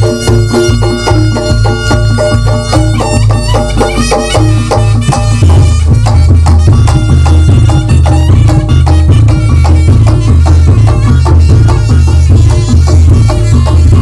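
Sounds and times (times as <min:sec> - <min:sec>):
drums: 0:00.0 - 0:14.0
gamelan ensemble playing: 0:00.0 - 0:14.0
low bass pattern: 0:00.0 - 0:14.0
wavering high melody: 0:00.0 - 0:14.0.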